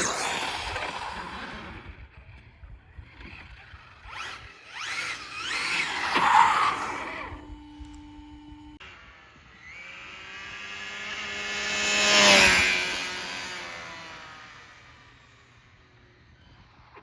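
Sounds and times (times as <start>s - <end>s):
rc car motor whine: 0.0s - 17.0s.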